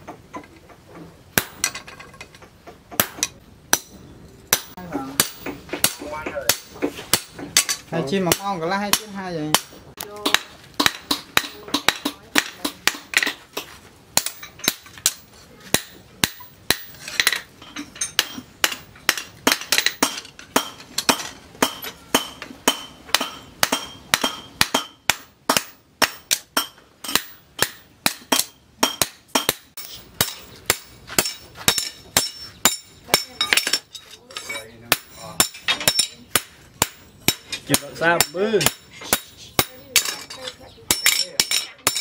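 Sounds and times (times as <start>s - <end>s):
hammer striking metal on anvil: 1.4s - 1.8s, 2.9s - 42.0s.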